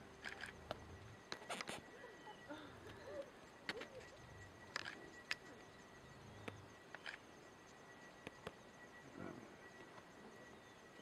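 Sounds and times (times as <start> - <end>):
faint outdoor background: 0.0 - 11.0
faint steady high tone: 0.0 - 11.0.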